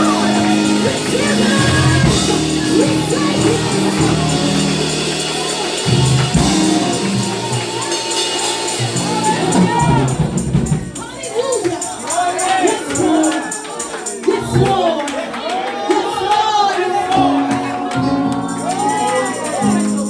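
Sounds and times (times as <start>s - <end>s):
tambourine shaking: 0.0s - 14.9s, 18.4s - 20.0s
congregation singing: 0.0s - 20.0s
gospel worship music: 0.0s - 20.0s.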